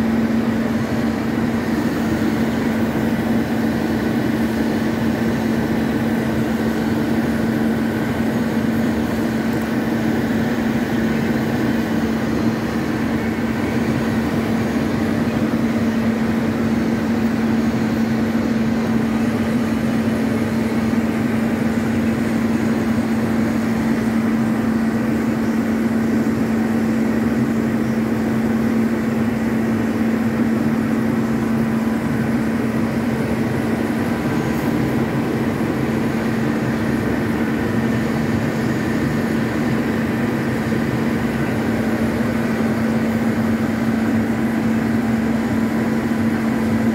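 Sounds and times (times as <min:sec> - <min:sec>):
metal lathe humming: 0:00.0 - 0:46.9.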